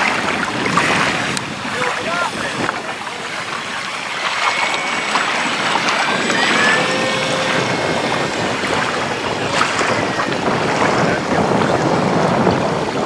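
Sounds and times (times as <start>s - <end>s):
electric motor and propeller whine: 0.0s - 13.0s
gusty wind on microphone: 0.0s - 13.0s.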